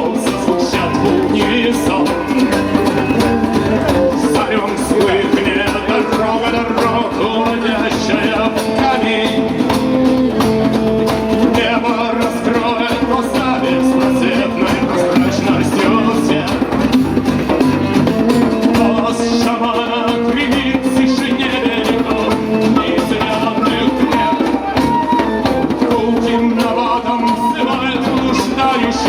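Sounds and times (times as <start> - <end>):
band playing melodic music: 0.0 - 29.0
steady drum beat: 0.0 - 29.0.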